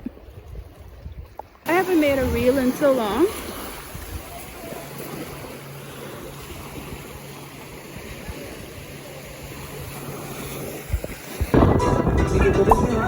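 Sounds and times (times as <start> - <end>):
lagoon water washing: 0.0 - 13.0
wind: 0.0 - 13.0.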